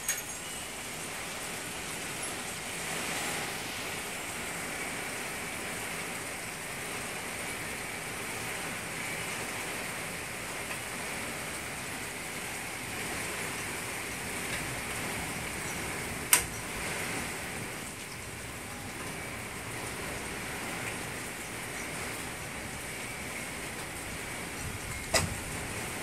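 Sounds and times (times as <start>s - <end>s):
steady rain on lawn and lake: 0.0s - 26.0s.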